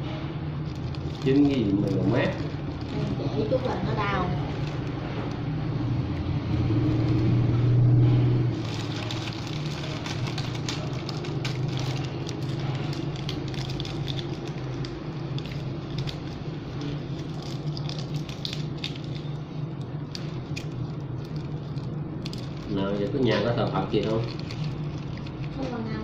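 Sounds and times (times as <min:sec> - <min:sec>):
steady low hum: 0:00.0 - 0:26.0
plastic bags crinkling: 0:00.6 - 0:05.6, 0:08.5 - 0:26.0.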